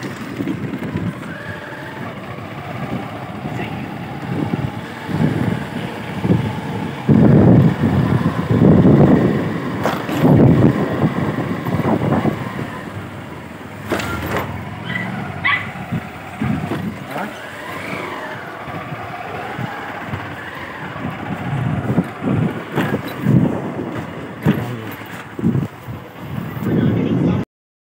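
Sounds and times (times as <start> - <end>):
motorbike engine rumble: 0.0 - 27.4
wind rumble: 0.0 - 27.4.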